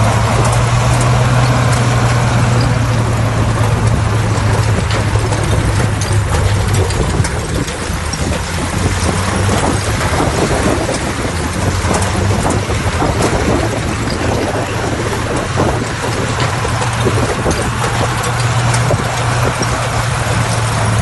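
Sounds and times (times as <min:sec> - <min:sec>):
diesel engine droning: 0:00.0 - 0:21.0
steel tracks clattering and grinding: 0:00.0 - 0:21.0.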